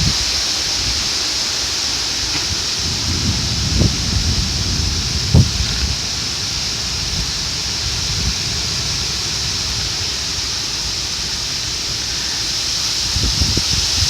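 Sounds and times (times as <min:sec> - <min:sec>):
heavy rain pouring: 0:00.0 - 0:14.0
wind buffeting microphone: 0:00.0 - 0:14.0.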